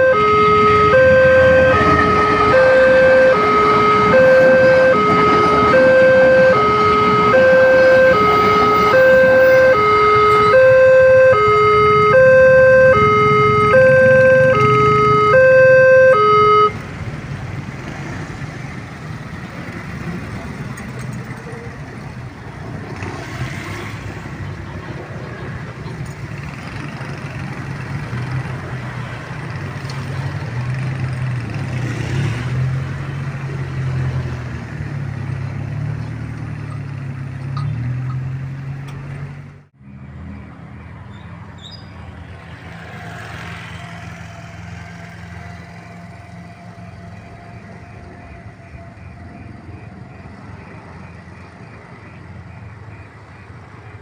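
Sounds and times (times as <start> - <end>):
motor vehicle engine rumble: 0.0 - 54.0
traffic noise: 0.0 - 54.0.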